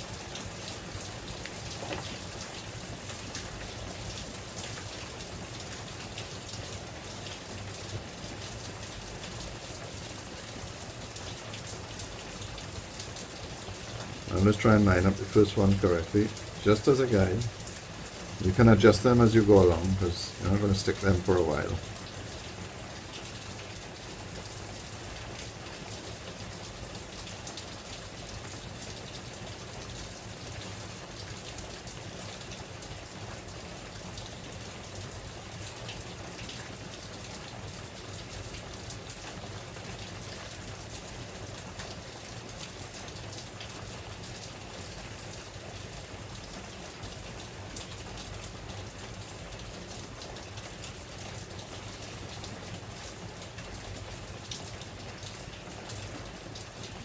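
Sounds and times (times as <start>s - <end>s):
pouring rain: 0.0s - 57.0s.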